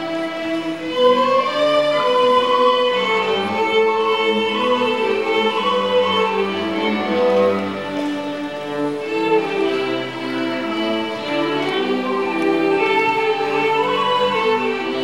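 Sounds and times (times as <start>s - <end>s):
violins and cello playing: 0.0s - 15.0s.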